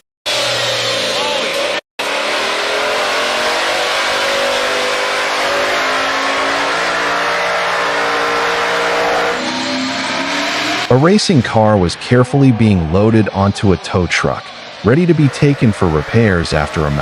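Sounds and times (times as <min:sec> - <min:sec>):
car engine running: 0:01.1 - 0:17.0.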